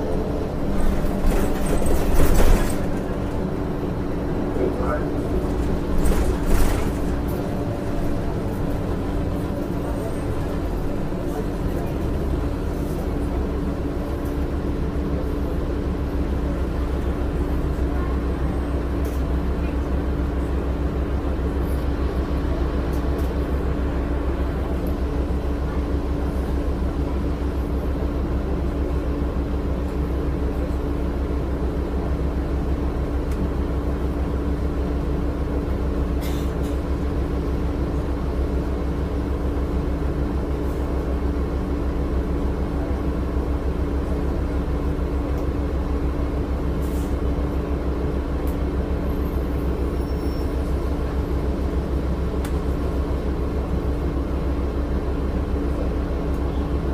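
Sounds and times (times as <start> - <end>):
bus diesel engine rumble: 0.0 - 56.9.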